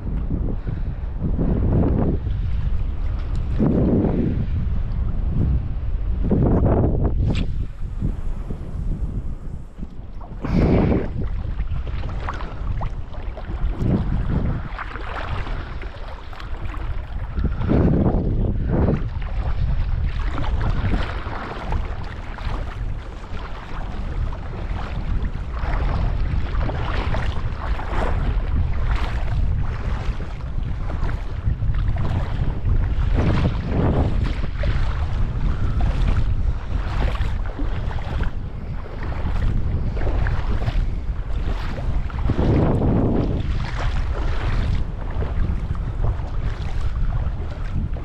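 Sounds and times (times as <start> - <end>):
water lapping in shallows: 0.0 - 48.0
wind buffeting microphone: 0.0 - 48.0.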